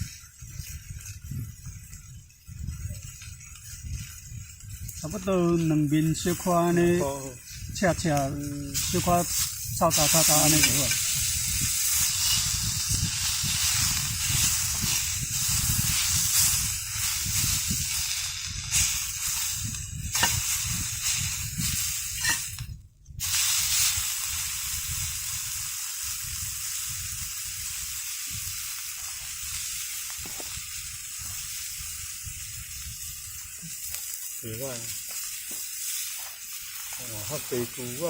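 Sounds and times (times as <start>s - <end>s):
steak sizzling in oil: 0.0s - 22.6s, 23.2s - 38.0s.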